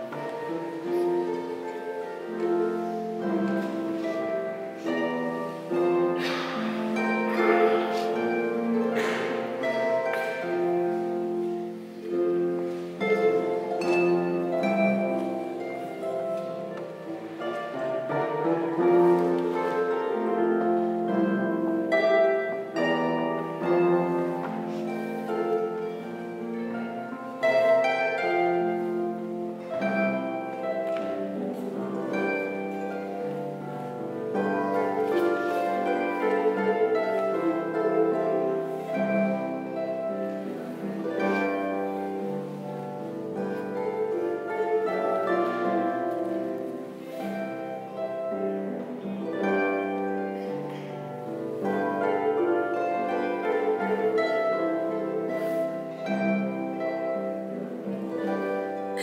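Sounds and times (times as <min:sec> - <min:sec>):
solo harp playing folk tune: 0:00.0 - 0:59.0.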